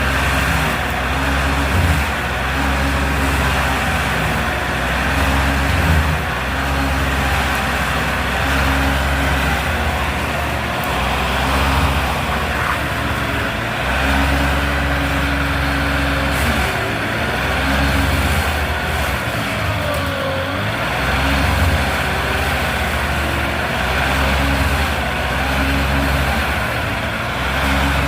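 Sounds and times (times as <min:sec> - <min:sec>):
large engine running: 0:00.0 - 0:28.0.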